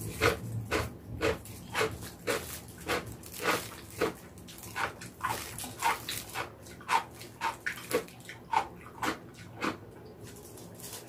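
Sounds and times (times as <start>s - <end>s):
wet chewing and lip-smacking: 0.1s - 10.4s.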